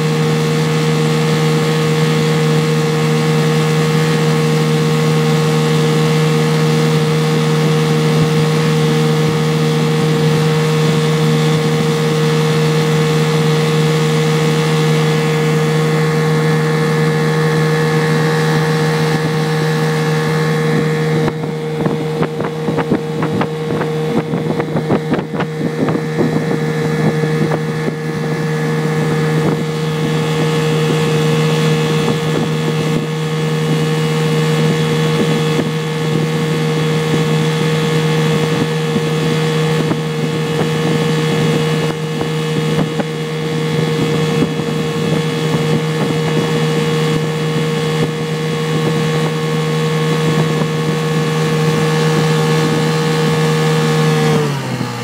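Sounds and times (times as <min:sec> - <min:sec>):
outboard motor running: 0:00.0 - 0:55.0
wind buffeting microphone: 0:00.0 - 0:55.0.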